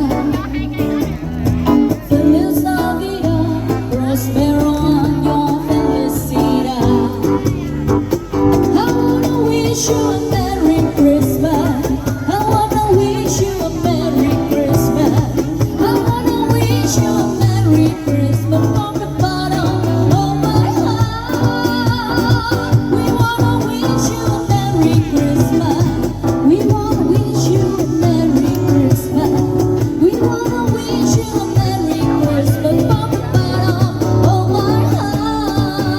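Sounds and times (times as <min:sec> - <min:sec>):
instrumental backing music: 0:00.0 - 0:35.9
young woman singing: 0:00.0 - 0:35.9.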